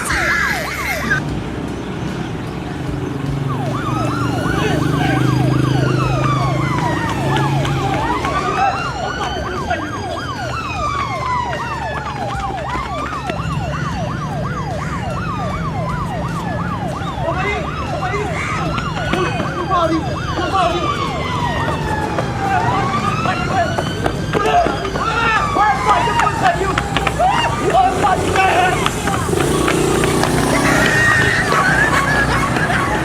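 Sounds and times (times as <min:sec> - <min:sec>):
police siren yelp: 0:00.0 - 0:01.2, 0:03.2 - 0:33.0
police siren wail: 0:00.0 - 0:01.3, 0:02.4 - 0:33.0.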